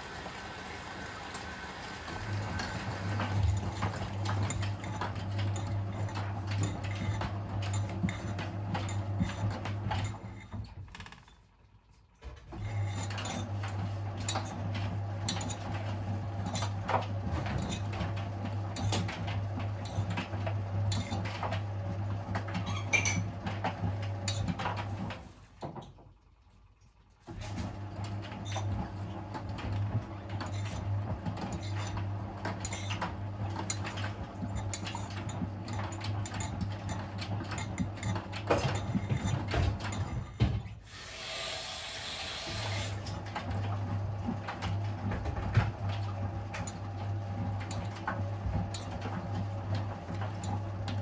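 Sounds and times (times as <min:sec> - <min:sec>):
washing machine motor hum: 0:00.0 - 0:51.0.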